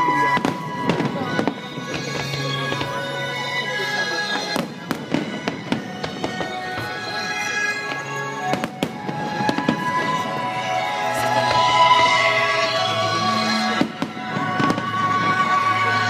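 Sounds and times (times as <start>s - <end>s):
fireworks bursting in bangs: 0.0s - 3.2s, 4.2s - 12.7s, 13.3s - 16.0s
music with sustained notes: 0.0s - 16.0s.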